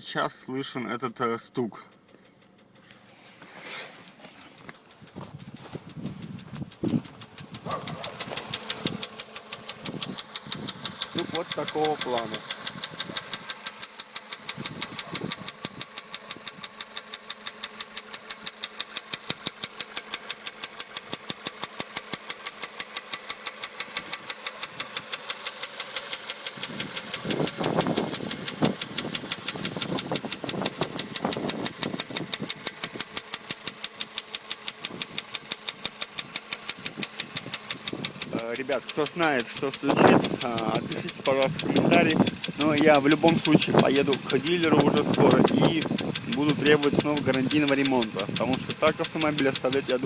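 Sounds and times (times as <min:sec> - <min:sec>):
car engine idling: 0:00.5 - 0:50.0.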